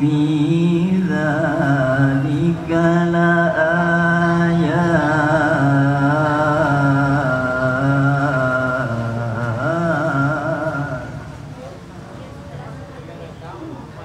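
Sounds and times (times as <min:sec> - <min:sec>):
man reciting melodically: 0:00.0 - 0:11.4.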